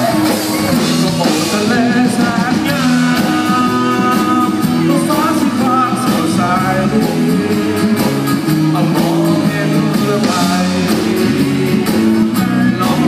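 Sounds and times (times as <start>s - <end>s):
electric guitars: 0.0s - 13.0s
live rock band playing: 0.0s - 13.0s
person singing: 0.0s - 13.0s.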